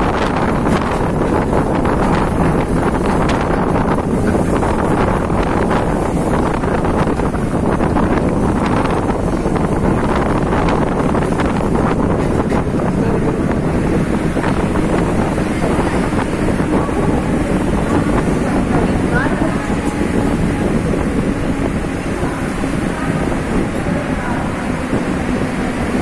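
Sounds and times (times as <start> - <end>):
electric train running rumble: 0.0 - 26.0
wind buffeting microphone: 0.0 - 26.0.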